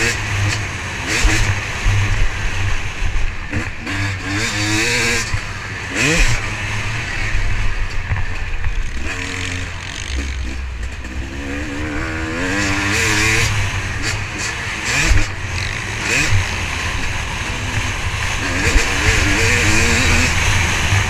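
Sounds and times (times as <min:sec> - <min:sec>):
motorbike engine revving: 0:00.0 - 0:21.0
track noise: 0:00.0 - 0:21.0.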